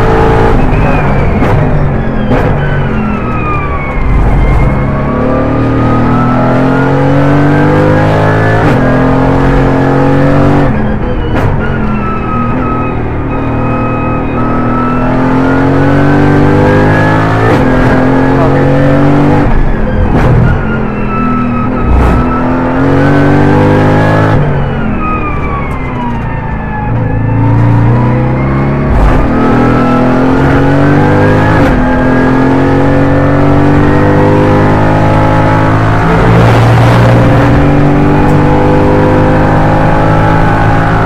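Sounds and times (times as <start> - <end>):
gear upshifts: 0.0 - 41.0
race car engine accelerating: 3.6 - 11.4, 12.3 - 24.8, 27.2 - 41.0.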